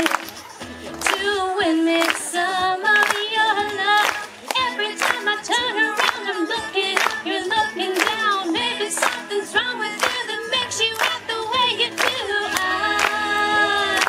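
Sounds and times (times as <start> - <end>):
woman singing into a microphone: 1.0 - 14.0.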